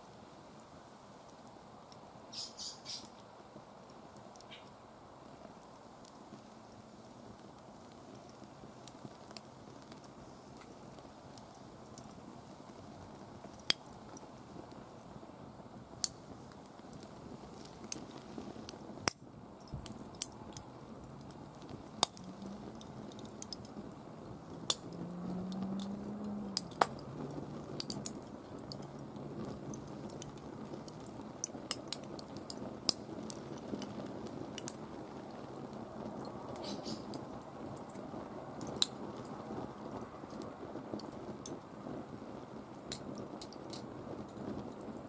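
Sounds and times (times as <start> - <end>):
fire crackling: 0.0 - 45.0
sharp pops of fire: 0.0 - 45.0.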